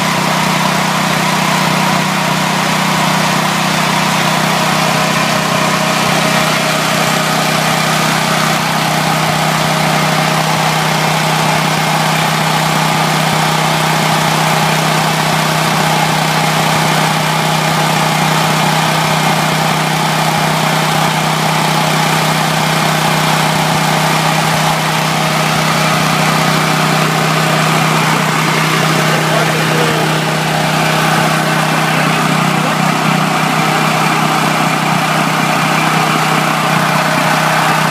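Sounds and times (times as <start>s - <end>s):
generator engine hum: 0.0s - 37.9s.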